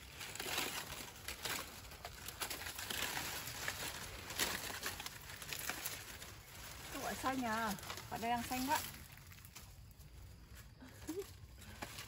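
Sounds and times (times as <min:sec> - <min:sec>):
rustling and snapping of leaves: 0:00.0 - 0:12.0.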